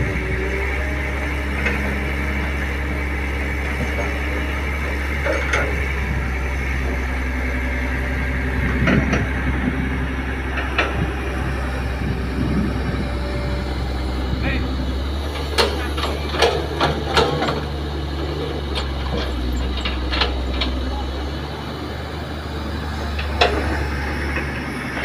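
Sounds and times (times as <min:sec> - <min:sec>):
excavator clanks and knocks: 0:00.0 - 0:25.0
excavator diesel engine running: 0:00.0 - 0:25.0.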